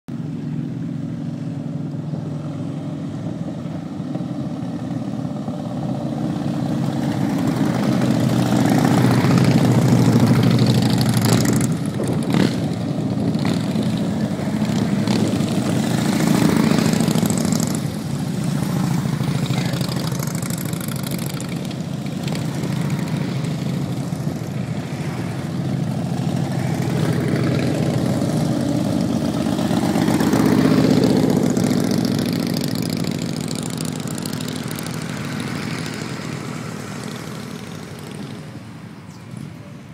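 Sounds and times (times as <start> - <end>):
motorcycles riding past: 0.2 - 39.9.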